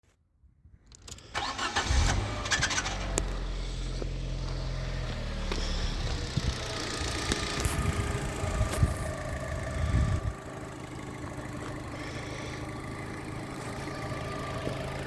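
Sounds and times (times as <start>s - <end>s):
car engine starting and idling: 0.9s - 15.0s.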